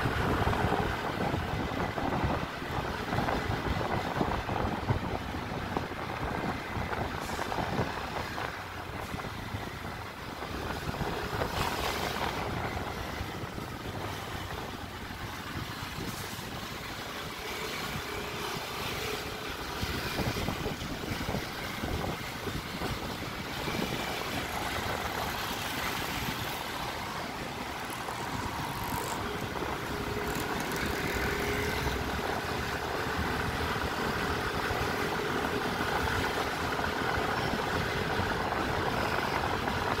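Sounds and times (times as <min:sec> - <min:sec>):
road traffic: 0:00.0 - 0:40.0
vehicle engine: 0:00.0 - 0:40.0.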